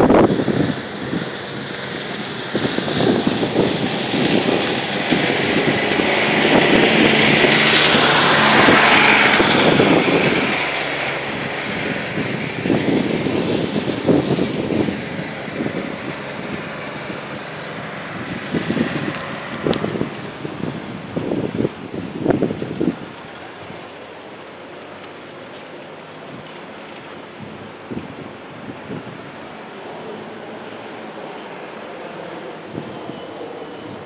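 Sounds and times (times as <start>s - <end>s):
motor vehicle passing: 0.0s - 34.0s
wind buffeting microphone: 0.0s - 34.0s.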